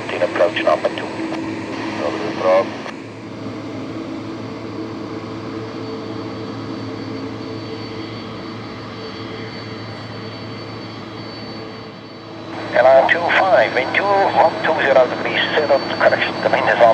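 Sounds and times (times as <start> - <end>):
jet engines idling low hum: 0.0 - 16.9
thin high engine whine: 0.0 - 16.9.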